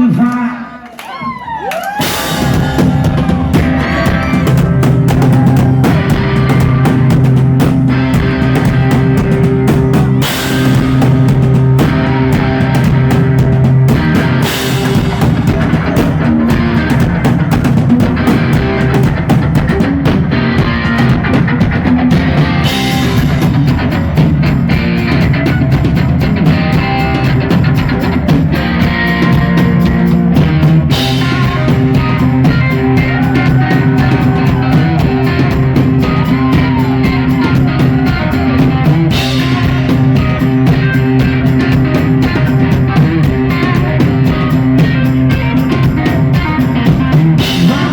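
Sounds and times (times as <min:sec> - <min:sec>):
drum kit: 0:01.2 - 0:47.9
electric guitar: 0:01.2 - 0:47.9.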